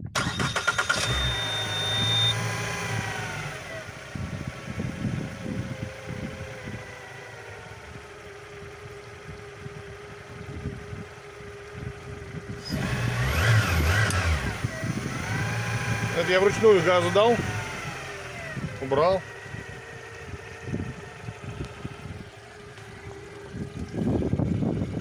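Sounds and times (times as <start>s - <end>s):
outboard motor idling: 0.0s - 25.0s
outboard motor revving: 0.0s - 25.0s.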